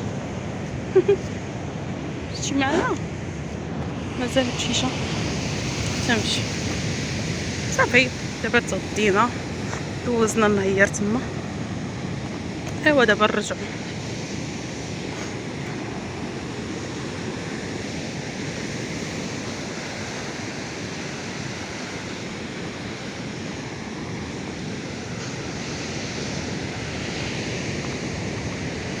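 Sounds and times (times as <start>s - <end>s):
ocean surf washing on beach: 0.0s - 29.0s.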